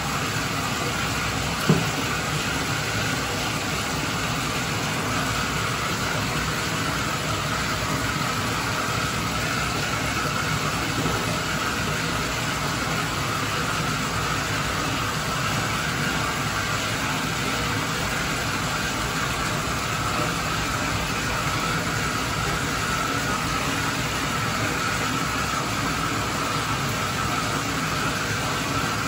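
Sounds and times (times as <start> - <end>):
tap water rushing into bathtub: 0.0 - 29.0.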